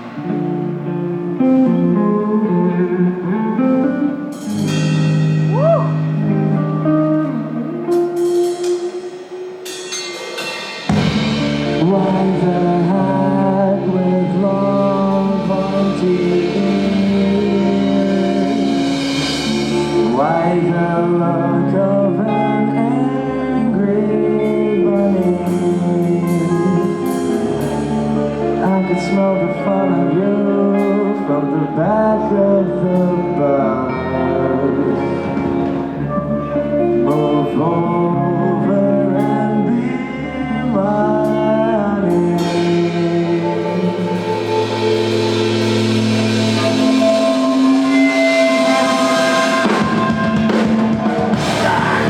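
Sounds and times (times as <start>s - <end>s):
guitar: 0.0s - 52.0s
live band playing: 0.0s - 52.0s.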